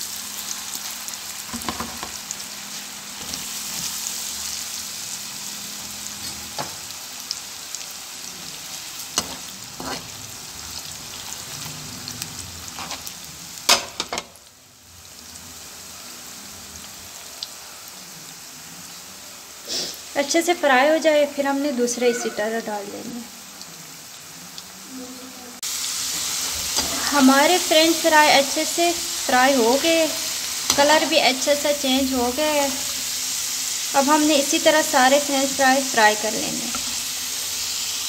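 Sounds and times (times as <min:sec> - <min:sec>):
potato sticks deep-frying in oil: 0:00.0 - 0:38.0.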